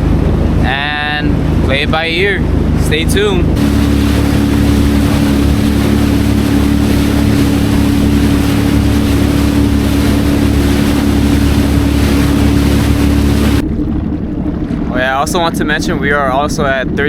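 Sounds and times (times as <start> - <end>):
wind and water spray rushing: 0.0 - 13.7
jet ski engine running: 0.0 - 17.0.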